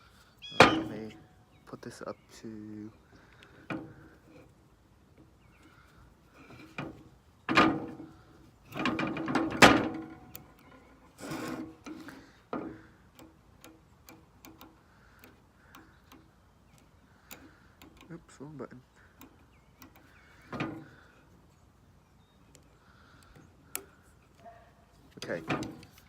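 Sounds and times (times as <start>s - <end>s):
bike lock clicking and rattling: 0.4s - 1.4s, 3.2s - 5.8s, 6.4s - 21.7s, 22.3s - 26.0s.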